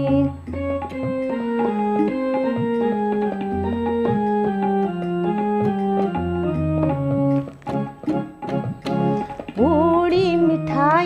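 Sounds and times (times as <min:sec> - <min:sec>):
organ-like keyboard melody: 0:00.0 - 0:11.0.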